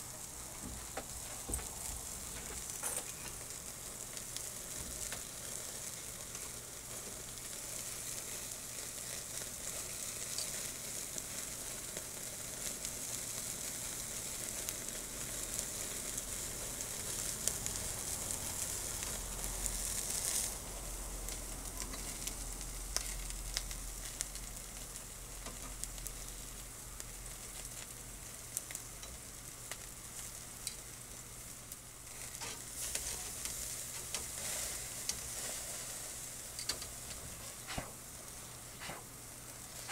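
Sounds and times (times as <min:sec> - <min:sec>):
charcoal crackles and pops: 0:00.0 - 0:39.9
food sizzling on a grill: 0:00.0 - 0:39.9.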